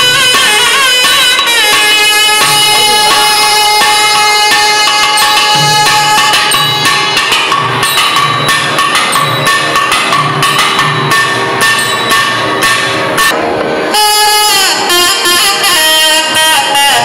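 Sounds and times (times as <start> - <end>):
drums playing sharp strokes: 0.0 - 13.9
reed instruments holding notes: 0.0 - 17.0.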